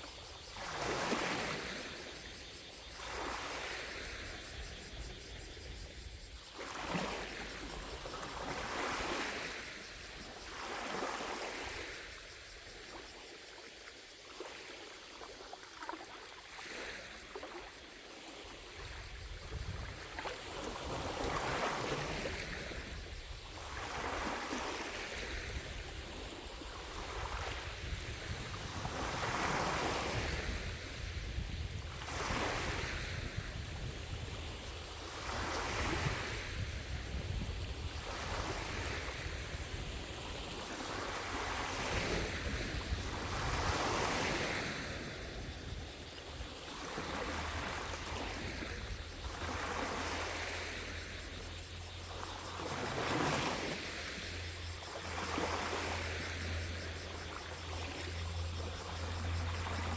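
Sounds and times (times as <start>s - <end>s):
distant cicadas droning: 0.0s - 59.9s
lake waves lapping: 0.5s - 2.1s, 3.0s - 5.6s, 6.6s - 12.1s, 14.3s - 59.9s.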